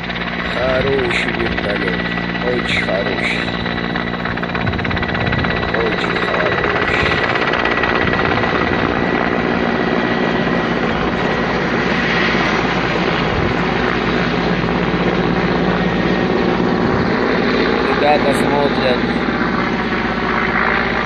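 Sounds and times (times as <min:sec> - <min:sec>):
helicopter rotor and turbine: 0:00.0 - 0:21.0.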